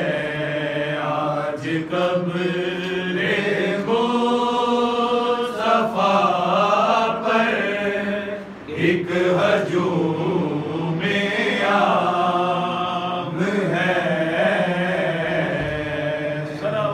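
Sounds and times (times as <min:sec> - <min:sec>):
person chanting a lament: 0:00.0 - 0:16.9.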